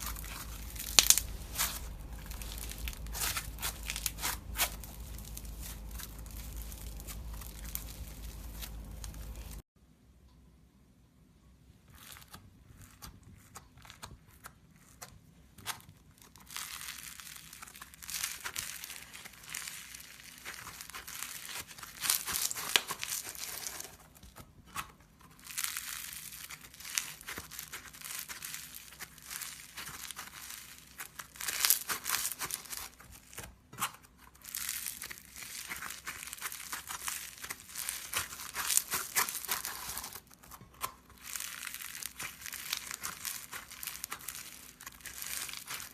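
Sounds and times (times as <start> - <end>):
crunchy slime crackling: 0.0 - 9.6, 11.9 - 45.9.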